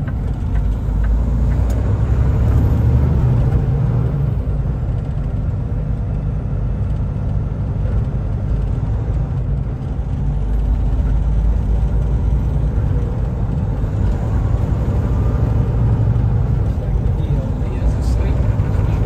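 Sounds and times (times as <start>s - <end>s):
truck engine rumble: 0.0s - 19.0s.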